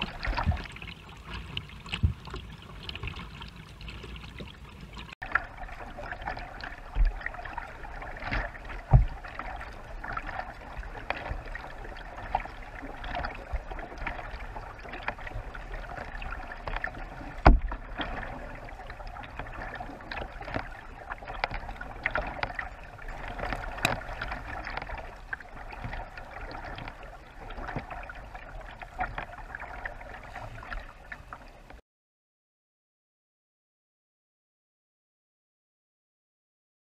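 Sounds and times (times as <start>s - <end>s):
paddle strokes splashing: 0.0s - 31.7s
water washing along hull: 0.0s - 31.8s.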